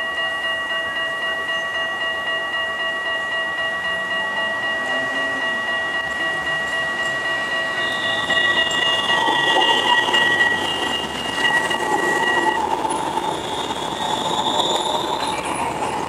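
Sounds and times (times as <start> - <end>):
tram rolling noise: 0.0 - 16.0
tram wheels squealing: 0.0 - 16.0.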